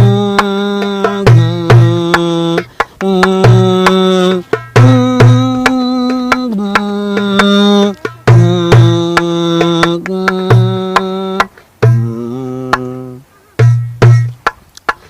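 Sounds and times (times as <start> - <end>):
percussion beat with kick drum: 0.0 - 13.0, 13.6 - 15.0.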